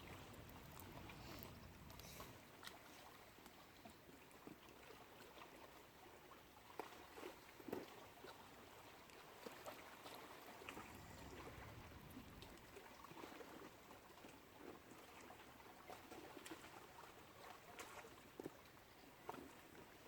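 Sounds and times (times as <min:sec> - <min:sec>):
faint lake water lapping: 0:00.0 - 0:20.0.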